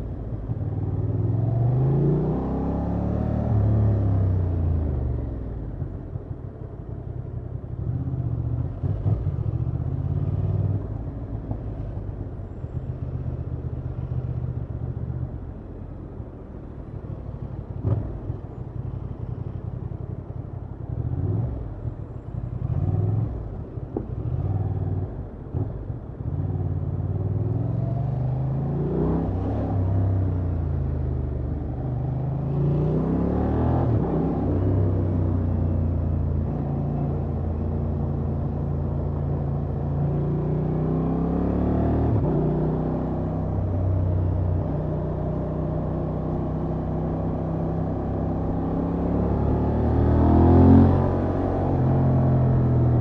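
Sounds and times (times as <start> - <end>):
city traffic: 0.0 - 53.0.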